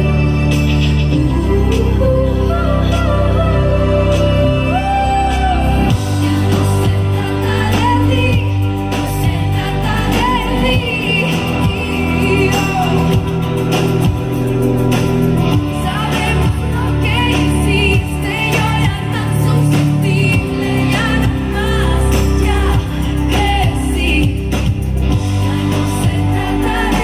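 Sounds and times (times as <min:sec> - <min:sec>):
live pop band playing: 0:00.0 - 0:27.0
woman singing lead vocal: 0:00.0 - 0:27.0.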